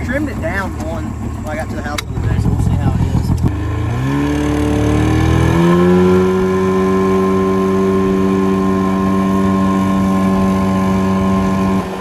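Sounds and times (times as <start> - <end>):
jet boat motor revving: 0.0 - 12.0.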